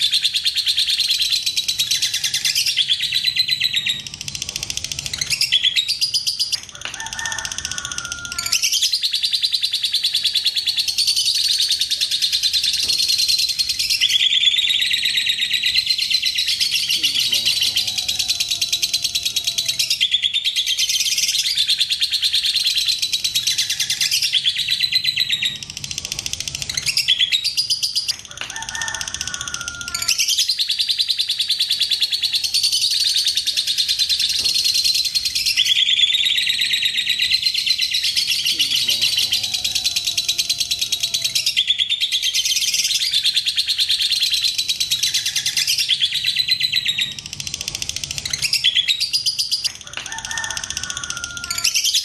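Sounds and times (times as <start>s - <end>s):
lovebirds chattering: 0.0s - 52.0s.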